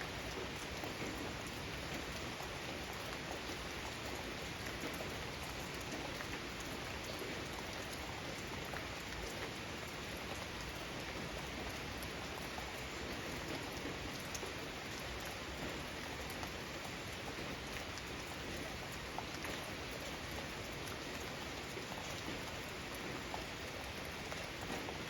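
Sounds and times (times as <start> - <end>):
raindrops pattering on surfaces: 0.0 - 25.0
steady rain hissing: 0.0 - 25.0.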